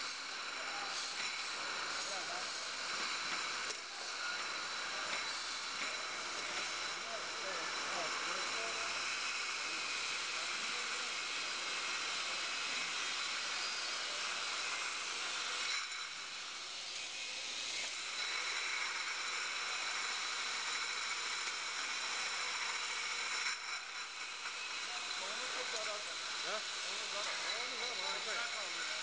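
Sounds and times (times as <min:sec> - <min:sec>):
factory machinery hissing: 0:00.0 - 0:29.0.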